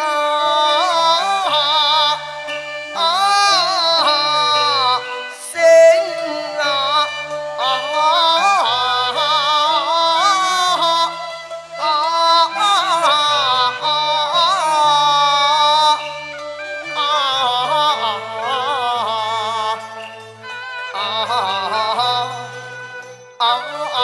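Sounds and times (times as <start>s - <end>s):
man singing opera: 0.0s - 2.3s, 2.9s - 16.1s, 17.0s - 19.9s, 20.9s - 22.5s, 23.4s - 24.0s
instrumental accompaniment: 0.0s - 24.0s.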